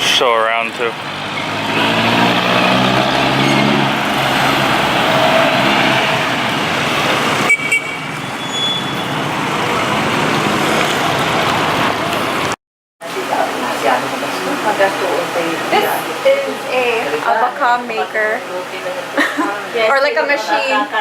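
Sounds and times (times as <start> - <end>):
vehicle engine passing: 0.0 - 19.9
road traffic noise: 0.0 - 21.0.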